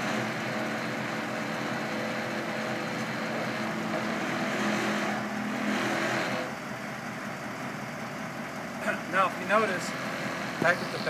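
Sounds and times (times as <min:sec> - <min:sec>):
truck engine and hydraulic pump: 0:00.0 - 0:11.0.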